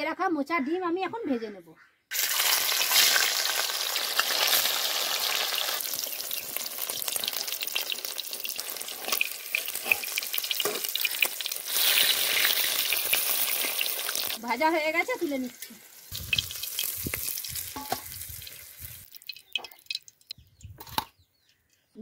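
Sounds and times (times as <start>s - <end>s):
food frying in oil: 2.1s - 20.4s.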